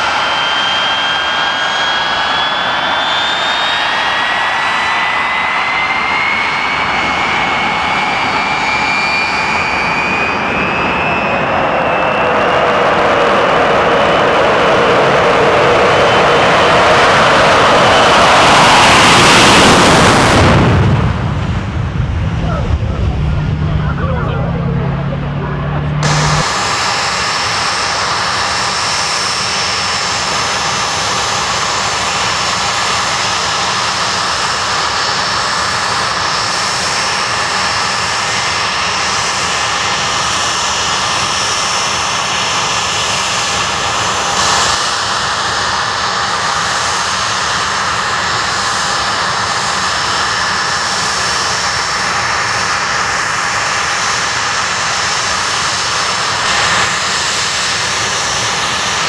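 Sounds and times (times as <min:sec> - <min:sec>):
jet engines running with high whine: 0:00.0 - 0:59.0.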